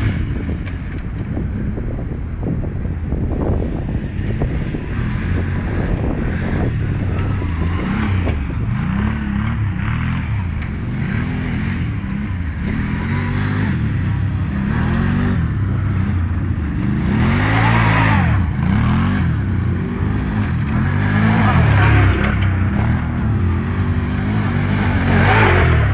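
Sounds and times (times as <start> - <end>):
quad bike engines revving: 0.0 - 25.9.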